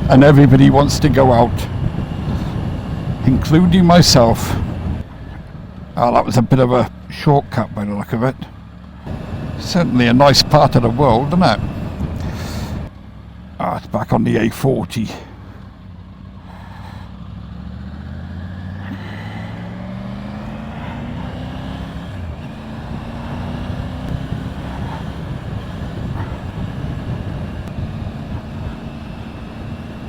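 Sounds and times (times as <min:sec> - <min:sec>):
motorcycle engine revving: 0:00.0 - 0:06.0, 0:08.4 - 0:13.6, 0:15.4 - 0:30.0
wind and road noise: 0:00.0 - 0:30.0.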